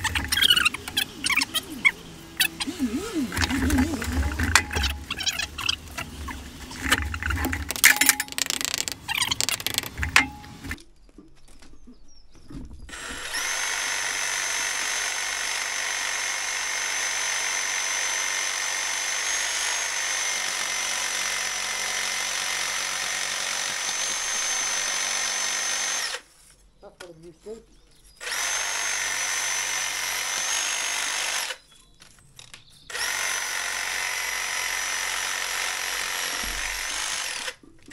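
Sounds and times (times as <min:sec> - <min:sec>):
power tool whining: 0:00.0 - 0:10.8, 0:12.9 - 0:26.3, 0:28.2 - 0:31.6, 0:32.9 - 0:37.6.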